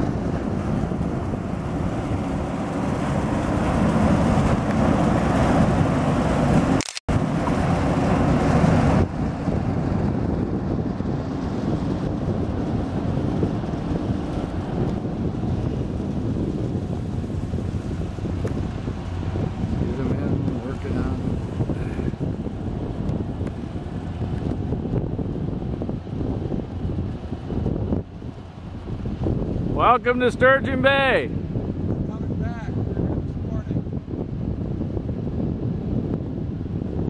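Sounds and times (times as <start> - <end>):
ship low rumble: 0.0 - 37.0
wind noise on microphone: 0.0 - 37.0.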